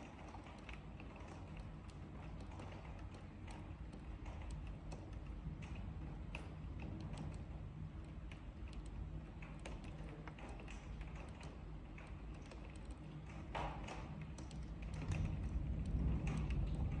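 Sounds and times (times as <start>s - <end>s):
faint tapping clicks: 0.0s - 17.0s
steady low hum: 0.0s - 17.0s.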